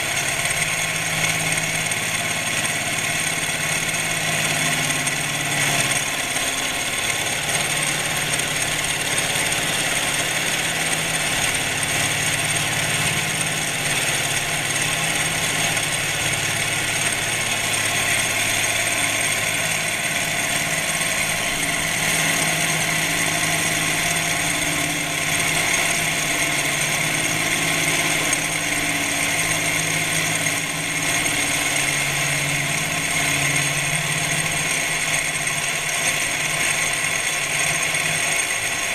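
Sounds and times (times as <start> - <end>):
milling machine cutting: 0.0 - 38.9.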